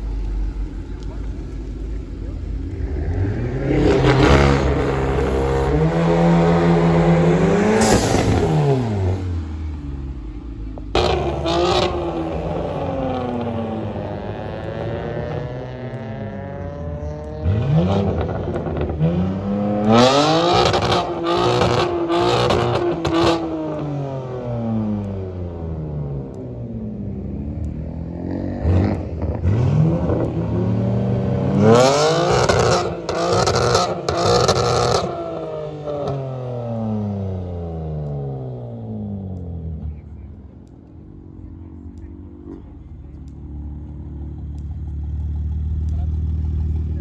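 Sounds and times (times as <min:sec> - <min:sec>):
car engines revving: 0:00.0 - 0:47.0
exhaust cracks: 0:00.0 - 0:47.0.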